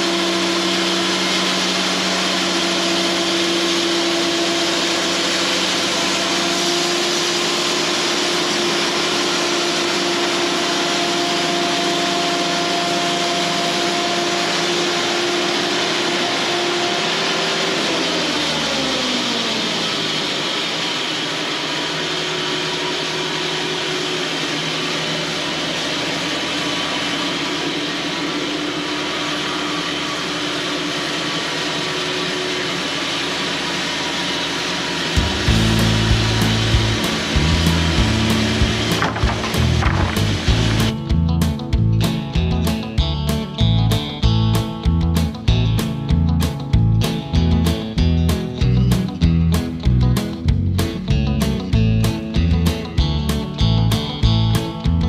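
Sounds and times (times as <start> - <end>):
band sawmill running: 0.0 - 55.0.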